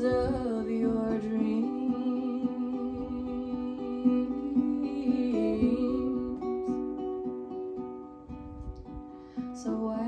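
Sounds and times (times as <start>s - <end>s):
acoustic guitar plucked notes: 0.0s - 10.0s.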